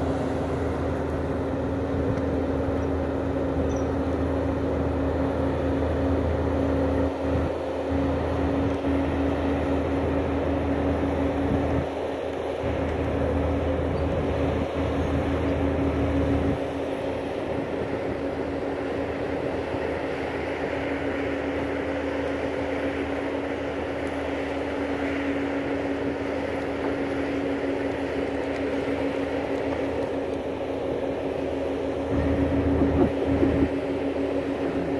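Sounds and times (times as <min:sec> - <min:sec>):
diesel engine running: 0:00.0 - 0:34.9
steady whine: 0:00.0 - 0:34.9.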